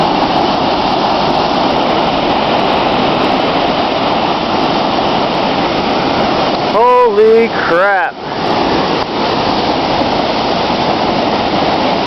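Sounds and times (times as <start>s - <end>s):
floodwater rushing through floodgates: 0.0s - 12.0s.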